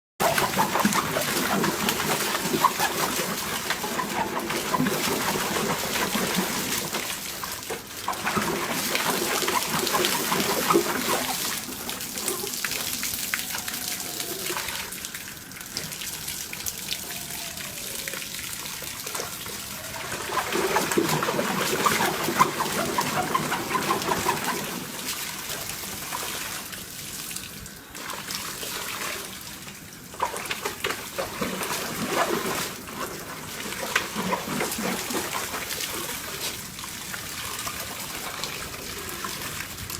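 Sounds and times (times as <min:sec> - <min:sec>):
water running and splashing: 0:00.2 - 0:39.9.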